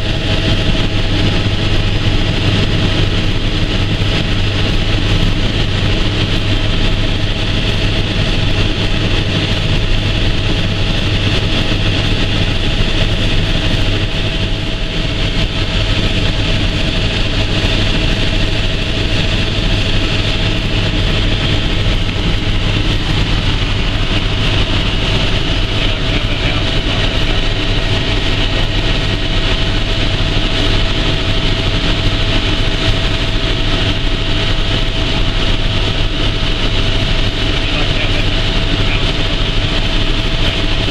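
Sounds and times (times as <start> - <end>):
constant engine whine: 0.0 - 40.9
helicopter rotor and engine drone: 0.0 - 40.9.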